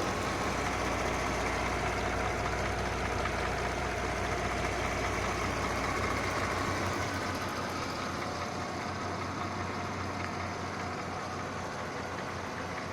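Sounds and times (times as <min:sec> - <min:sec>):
engine clattering: 0:00.0 - 0:12.9.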